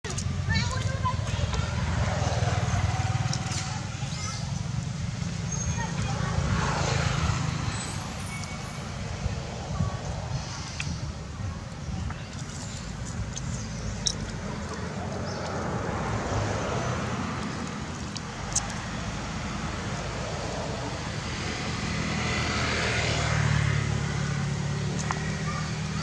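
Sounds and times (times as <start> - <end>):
traffic noise: 0.0 - 26.0
vehicle engine hum passing: 0.0 - 26.0.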